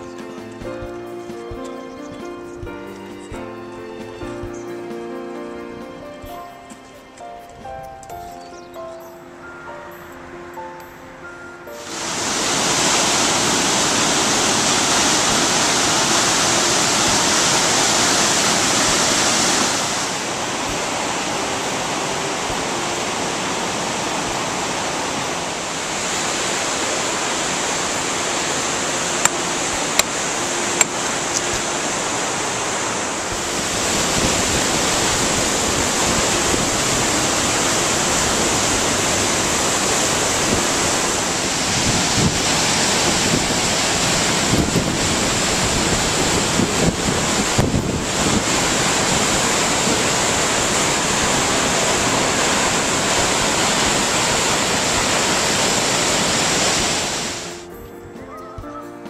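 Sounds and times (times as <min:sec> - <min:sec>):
whitewater rushing over boulders: 0:00.0 - 0:07.4, 0:11.8 - 0:57.7.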